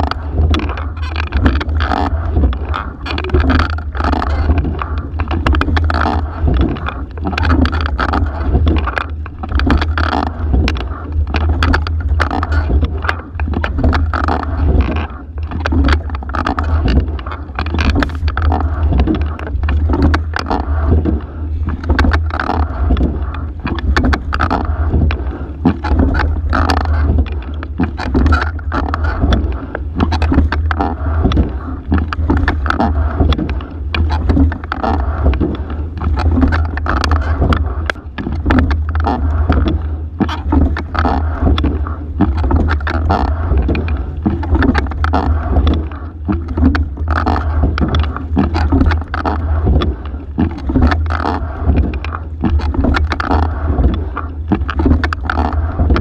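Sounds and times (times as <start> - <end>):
low rumble: 0.0 - 56.0
oars clacking in oarlocks: 0.0 - 56.0
water rushing along hull: 0.0 - 56.0.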